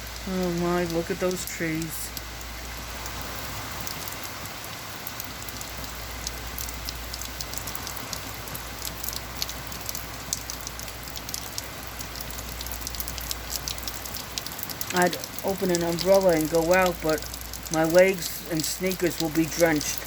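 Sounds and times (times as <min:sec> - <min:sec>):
heavy rain falling: 0:00.0 - 0:20.0
water dripping and splashing: 0:00.0 - 0:20.0.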